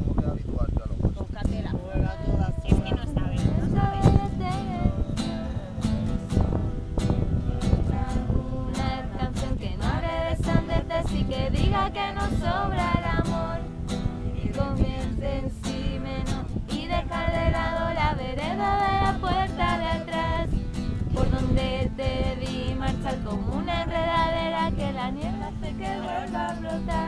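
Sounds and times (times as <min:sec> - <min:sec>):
guitar: 0:01.0 - 0:27.0
woman singing: 0:01.5 - 0:27.0.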